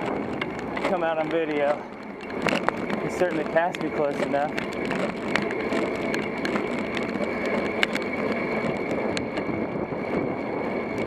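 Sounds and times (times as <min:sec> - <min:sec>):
bicycle tyre noise: 0:00.0 - 0:11.0
bike clicks and rattles: 0:00.0 - 0:11.0
wind noise: 0:00.0 - 0:11.0.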